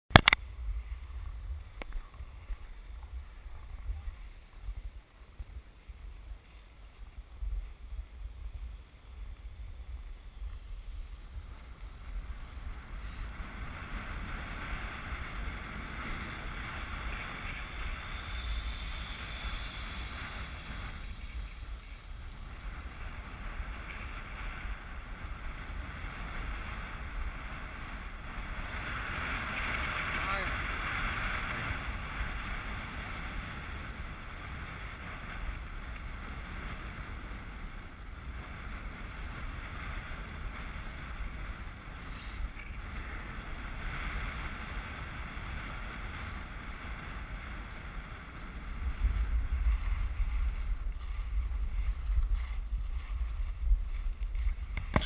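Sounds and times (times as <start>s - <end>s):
wind buffeting microphone: 0.1s - 55.0s
skis sliding on snow: 0.5s - 55.0s.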